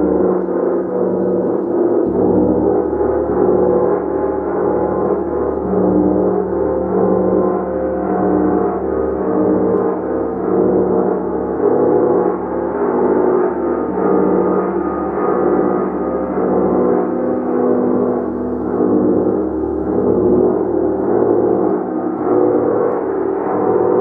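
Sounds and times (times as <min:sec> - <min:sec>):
gong sustained tones: 0:00.0 - 0:24.0.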